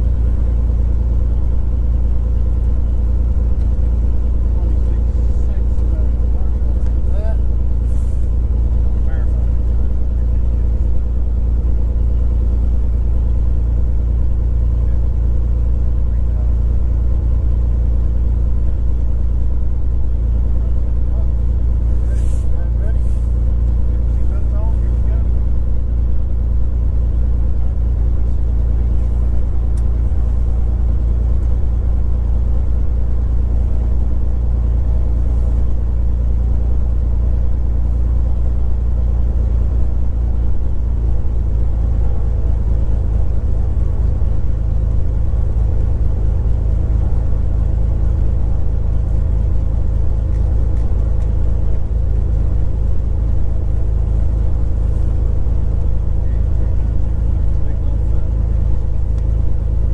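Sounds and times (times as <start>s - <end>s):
aircraft engine and propeller idling: 0.0s - 59.9s.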